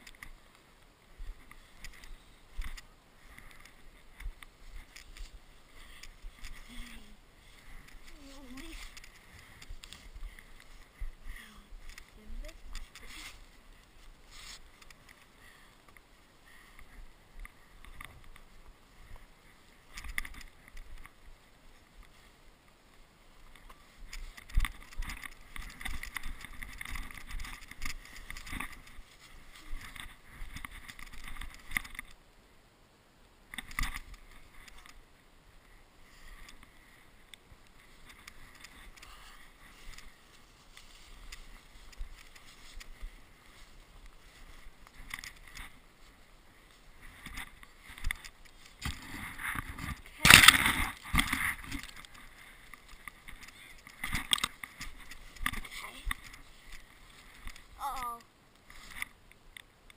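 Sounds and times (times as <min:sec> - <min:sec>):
snow scraping and crunching: 0:00.4 - 0:15.7, 0:16.5 - 0:31.7, 0:34.0 - 0:57.8.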